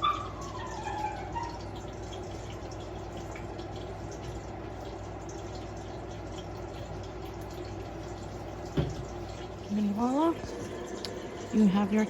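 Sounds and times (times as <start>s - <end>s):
faint drips: 0.0s - 12.0s
liquid running: 0.0s - 12.0s.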